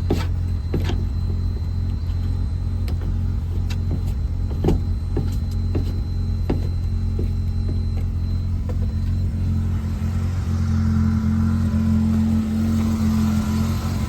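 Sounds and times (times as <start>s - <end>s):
rotary engine idling: 0.0s - 14.0s.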